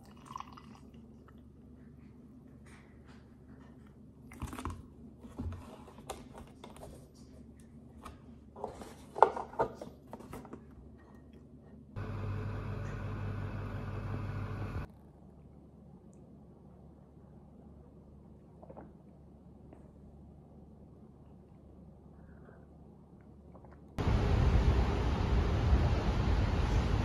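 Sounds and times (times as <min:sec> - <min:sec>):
mechanical hum: 0:01.4 - 0:18.4, 0:19.3 - 0:27.0.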